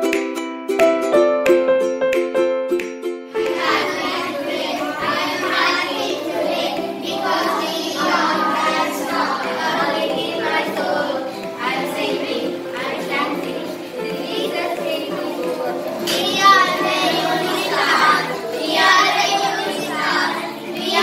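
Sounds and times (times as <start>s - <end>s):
plucked-string music: 0.0s - 21.0s
children singing in unison: 3.4s - 21.0s.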